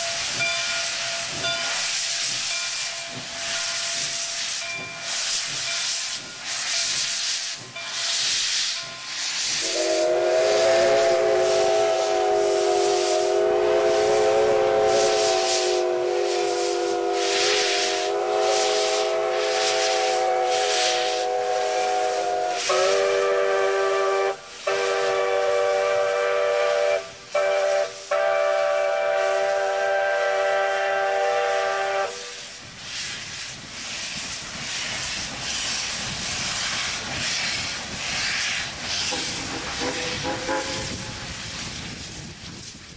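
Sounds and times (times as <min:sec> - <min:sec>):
steam locomotive chime whistle: 0:00.0 - 0:32.6, 0:38.9 - 0:41.5
steam hissing from cylinder cocks: 0:00.0 - 0:42.9.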